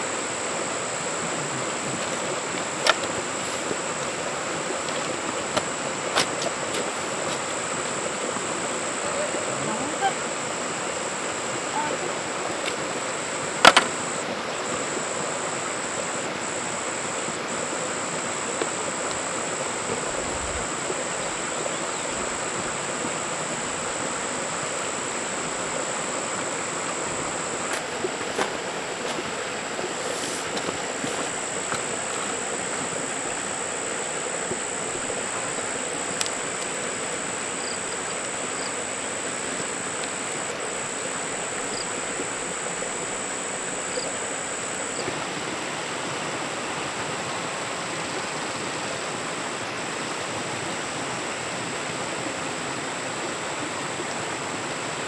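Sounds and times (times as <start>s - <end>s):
insects droning: 0.0s - 55.0s
steady rain: 0.0s - 55.0s.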